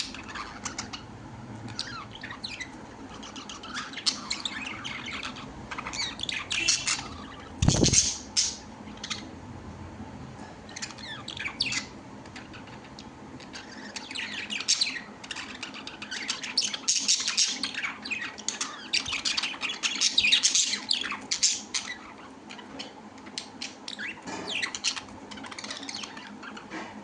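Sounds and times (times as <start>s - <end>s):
birds squawking and chirping: 0.0s - 9.4s, 10.6s - 27.0s.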